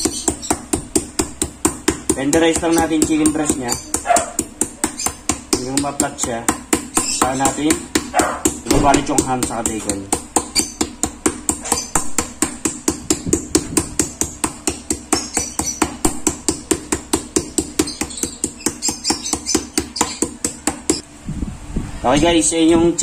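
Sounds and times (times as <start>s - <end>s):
meat mallet pounding chicken: 0.0s - 21.0s.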